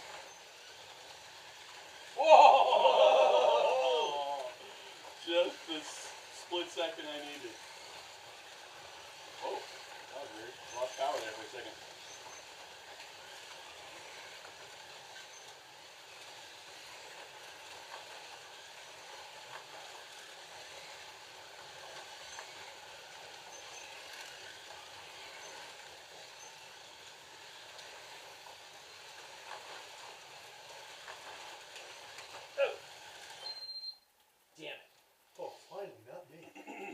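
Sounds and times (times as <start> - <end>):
slot car motors whirring: 0.0 - 33.6.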